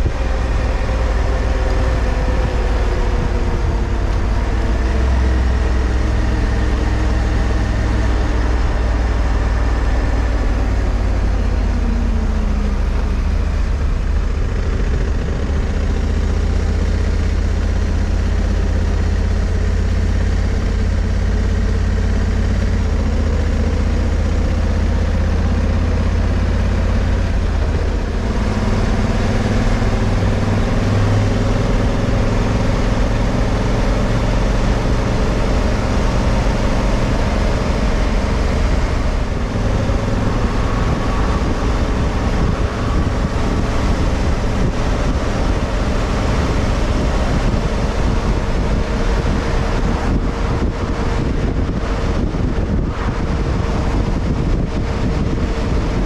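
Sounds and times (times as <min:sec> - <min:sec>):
motorcycle engine running: 0:00.0 - 0:56.0
road noise: 0:00.0 - 0:56.0
wind noise: 0:00.0 - 0:56.0.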